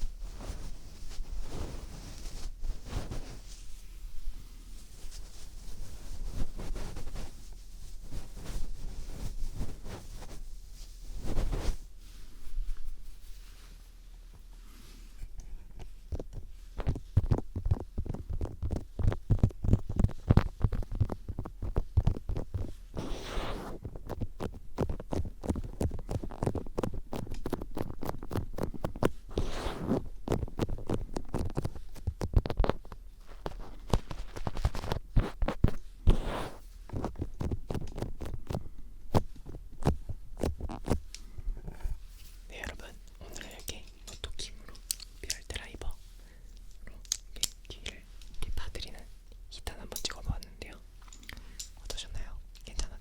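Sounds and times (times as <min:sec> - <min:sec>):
rustling swishes: 0:00.0 - 0:24.3, 0:32.8 - 0:52.1.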